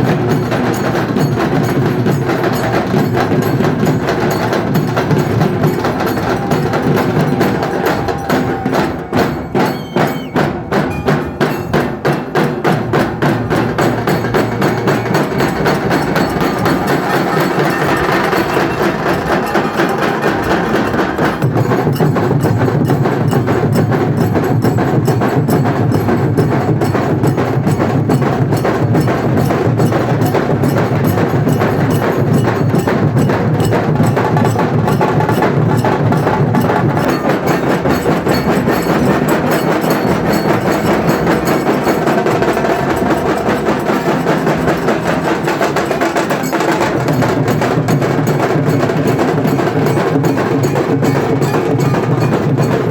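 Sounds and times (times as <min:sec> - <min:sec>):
deep barrel drum beats: 0:00.0 - 0:52.9
sharp rapid drum strokes: 0:00.0 - 0:52.9.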